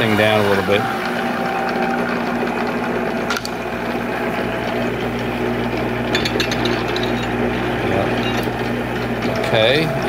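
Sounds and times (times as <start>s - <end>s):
lathe running: 0.0s - 10.0s.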